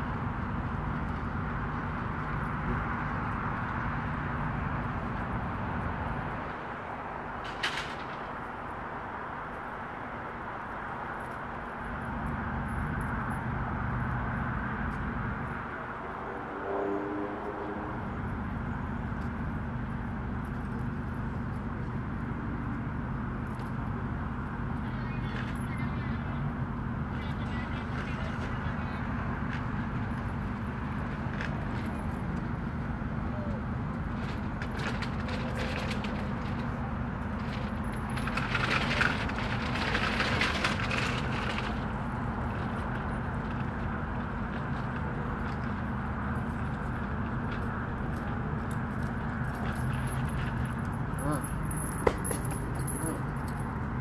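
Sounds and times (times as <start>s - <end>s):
traffic noise: 0.0s - 54.0s
vehicle engine hum: 0.0s - 54.0s.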